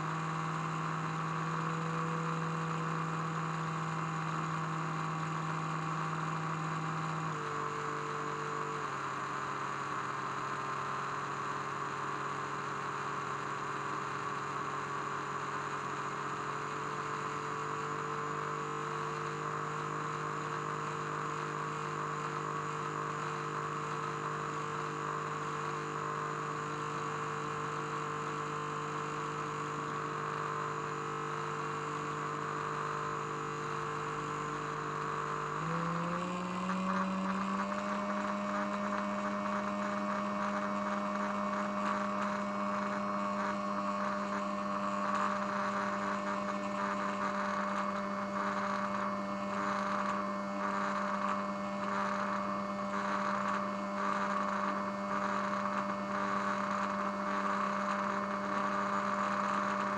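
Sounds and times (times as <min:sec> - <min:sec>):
speakers humming test tones: 0:00.0 - 0:12.6, 0:16.0 - 0:59.9.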